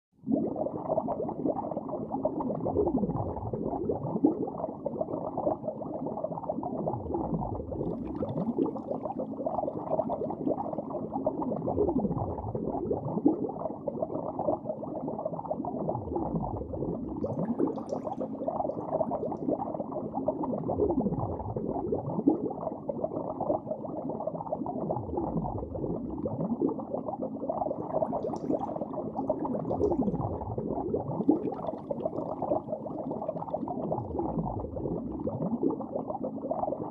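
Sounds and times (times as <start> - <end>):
underwater bubbling and gurgling: 0.2 - 36.9.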